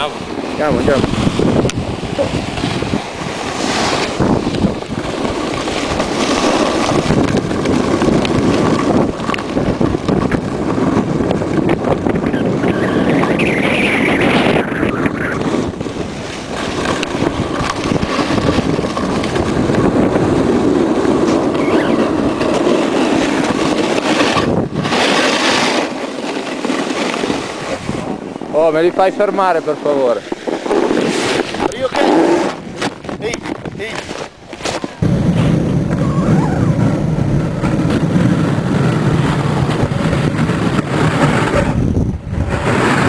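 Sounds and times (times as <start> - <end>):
sliding over hard snow: 0.0 - 43.0
wind on microphone: 0.0 - 43.0.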